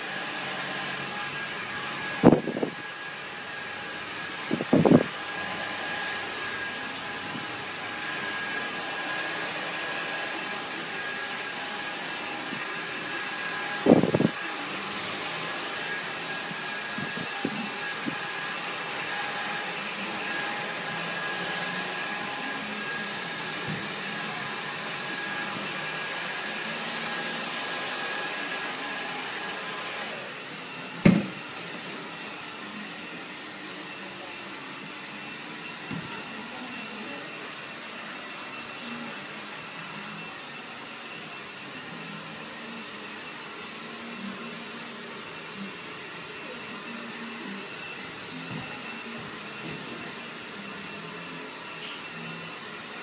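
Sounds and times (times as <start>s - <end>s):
hair dryer blowing: 0.0s - 53.0s.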